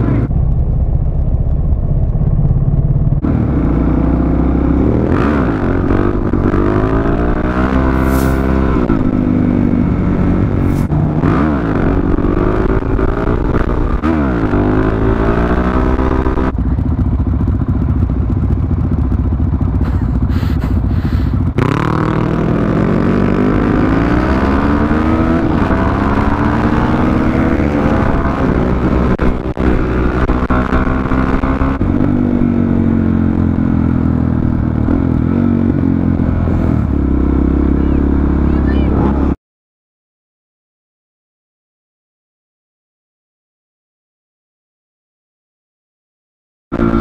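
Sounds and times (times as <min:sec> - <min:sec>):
motorcycle engine accelerating: 0:00.0 - 0:39.4, 0:46.7 - 0:47.0.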